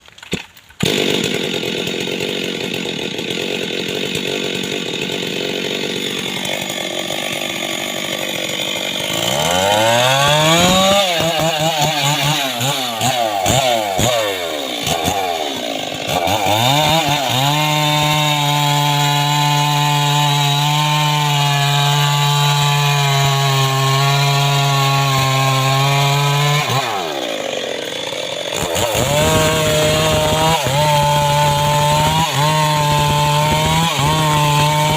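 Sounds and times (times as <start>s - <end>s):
chainsaw engine revving: 0.8s - 34.9s.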